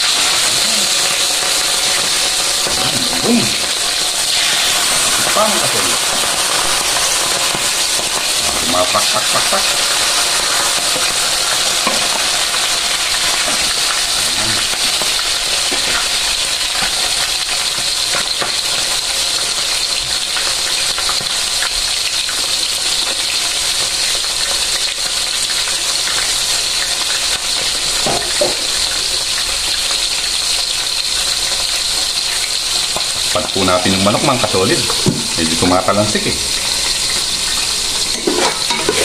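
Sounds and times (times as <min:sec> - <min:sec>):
chicken sizzling in hot oil: 0:00.0 - 0:39.0.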